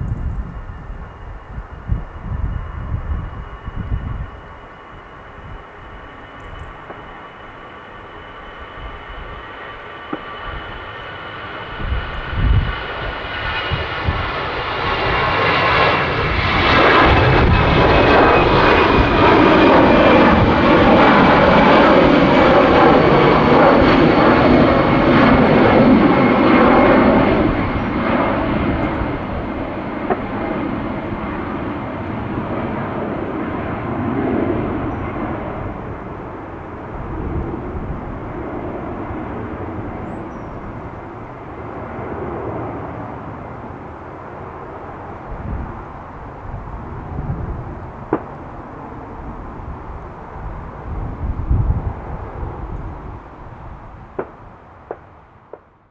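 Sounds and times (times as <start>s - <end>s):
jet airliner taking off: 0.0s - 55.6s
jet engine whine: 0.0s - 55.9s.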